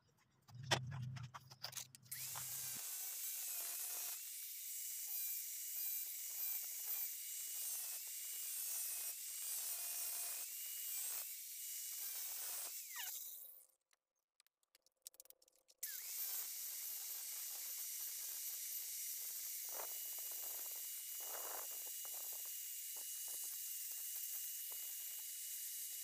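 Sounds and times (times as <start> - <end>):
angle grinder cutting plastic: 0.6 - 13.6, 15.8 - 26.0.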